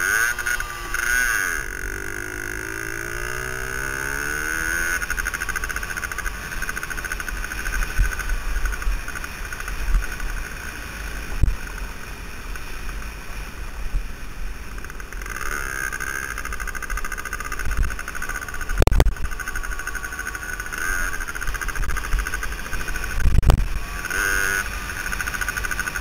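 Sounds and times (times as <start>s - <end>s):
two-stroke motorcycle engine running: 0.0s - 26.0s.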